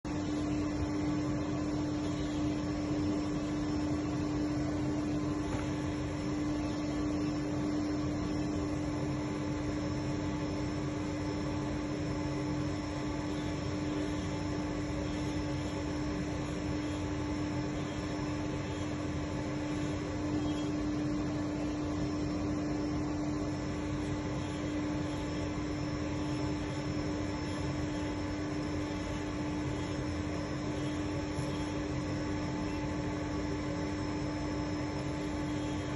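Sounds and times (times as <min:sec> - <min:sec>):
constant mid-pitched tone: 0:00.0 - 0:35.9
machine tool humming: 0:00.1 - 0:35.9.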